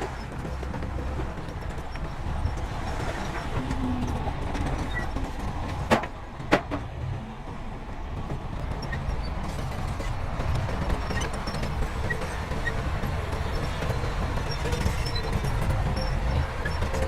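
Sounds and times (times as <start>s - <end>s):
diesel machinery rumbling: 0.0s - 17.0s.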